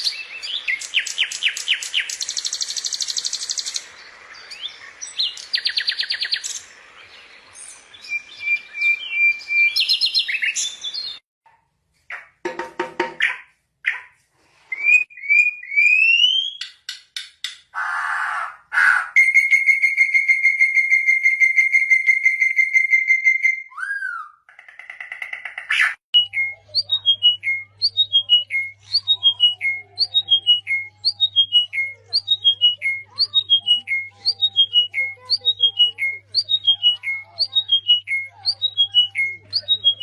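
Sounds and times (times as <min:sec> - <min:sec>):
songbird calls and trills: 0:00.0 - 0:11.2, 0:19.2 - 0:40.0.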